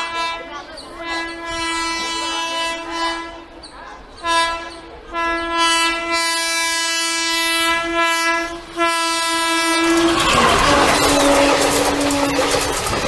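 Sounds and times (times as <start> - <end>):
locomotive horn blasts: 0.0 - 3.5, 4.2 - 12.7.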